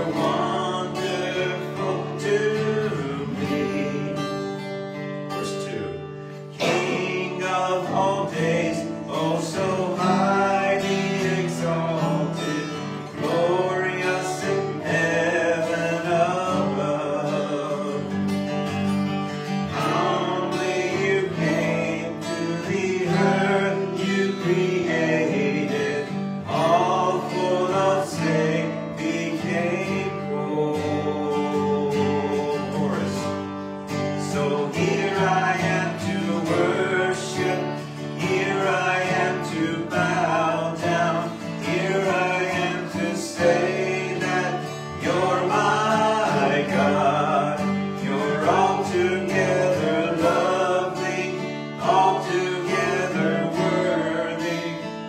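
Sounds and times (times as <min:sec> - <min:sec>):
person singing: 0:00.0 - 0:04.7, 0:05.3 - 0:18.4, 0:19.5 - 0:55.0
acoustic guitar strumming: 0:00.0 - 0:55.0.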